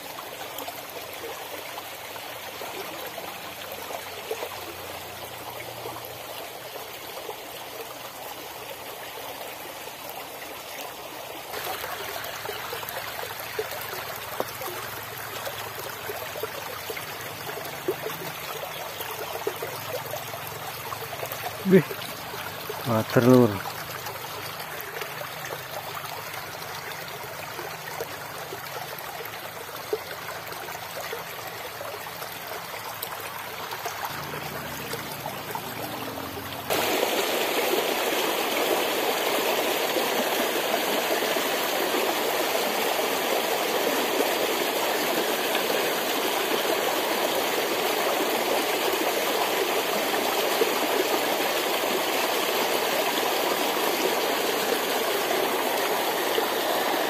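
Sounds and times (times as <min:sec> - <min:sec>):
stream running over rocks: 0:00.0 - 0:57.0
water splashing down cascade: 0:00.0 - 0:57.0.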